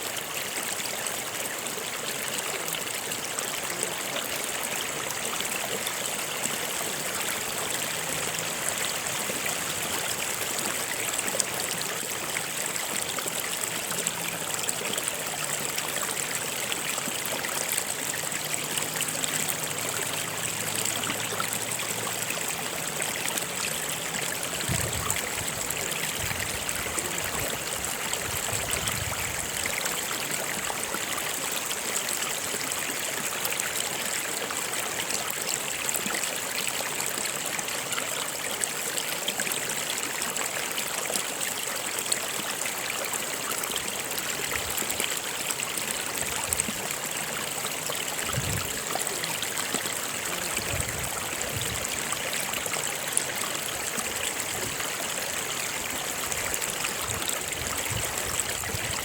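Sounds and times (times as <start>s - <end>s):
stream water flowing: 0.0s - 59.0s
water gurgles: 0.0s - 59.0s.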